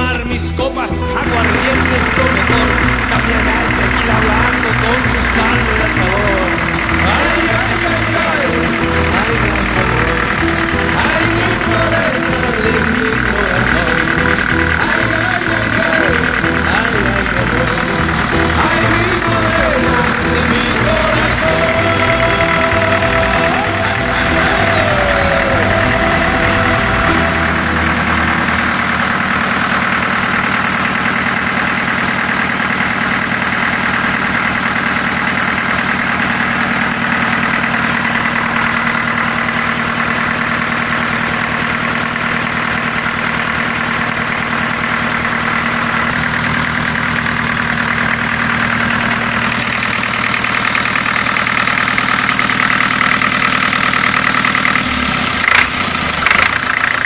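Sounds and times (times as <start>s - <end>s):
marine diesel engine idling: 0.0s - 57.0s.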